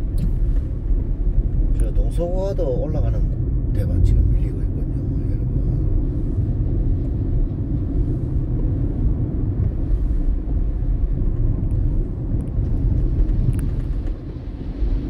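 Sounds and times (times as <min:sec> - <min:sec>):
car driving on wet road: 0:00.0 - 0:15.0.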